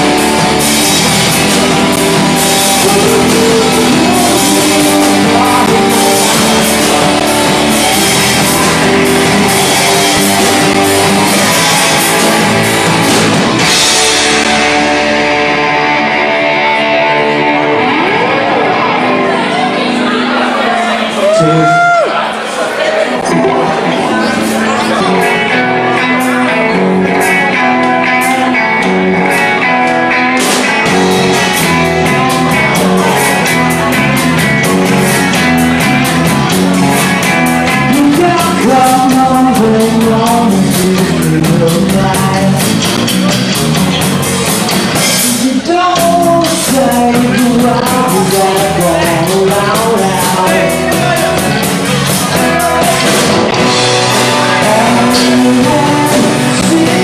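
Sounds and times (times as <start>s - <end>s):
person singing: 0.0s - 13.0s, 23.2s - 44.1s, 45.1s - 57.0s
drums and cymbals: 0.0s - 16.2s, 24.3s - 57.0s
guitars playing: 0.0s - 57.0s.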